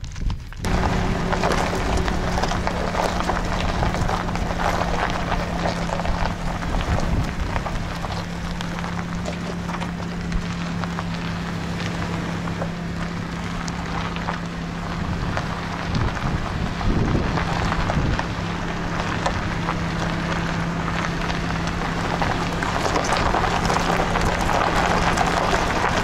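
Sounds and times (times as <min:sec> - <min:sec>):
tyres crunching on gravel: 0:00.0 - 0:26.0
wind noise: 0:00.0 - 0:26.0
engine hum: 0:00.4 - 0:26.0.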